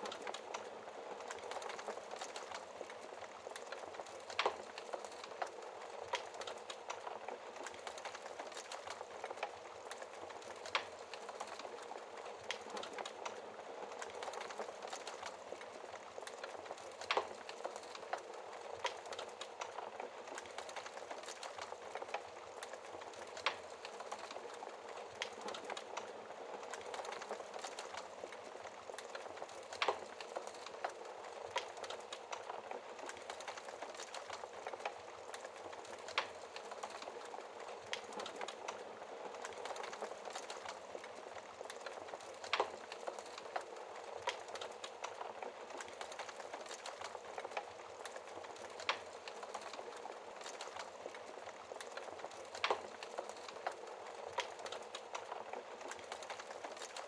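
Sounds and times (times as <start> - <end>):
wood fire crackling: 0.0 - 57.0
fire pops: 0.1 - 57.0.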